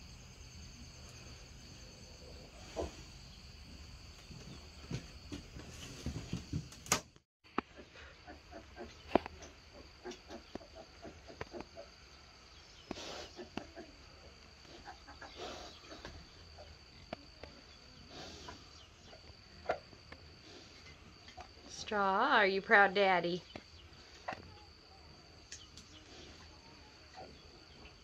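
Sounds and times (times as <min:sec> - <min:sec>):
faint insect hum: 0:00.0 - 0:07.0, 0:07.6 - 0:28.0.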